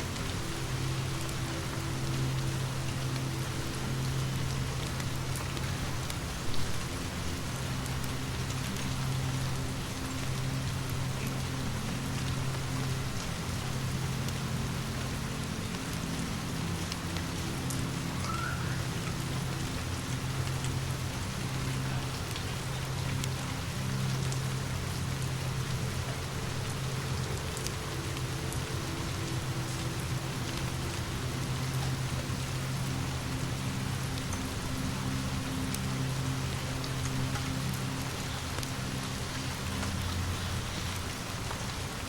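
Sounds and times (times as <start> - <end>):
steady rain hiss: 0.0 - 42.0.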